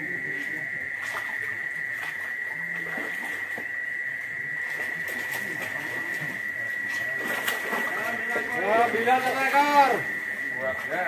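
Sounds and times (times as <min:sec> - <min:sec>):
faint murmured voices: 0:00.0 - 0:11.0.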